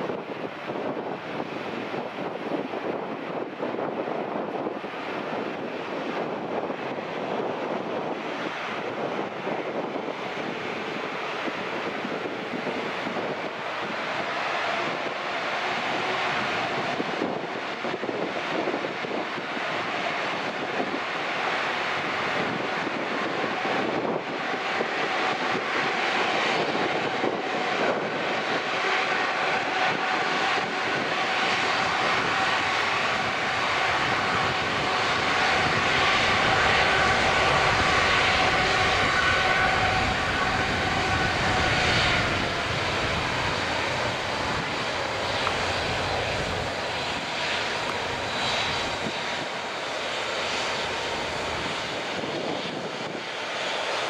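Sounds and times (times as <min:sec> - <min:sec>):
jet engines rumbling and whining: 0:00.0 - 0:54.0.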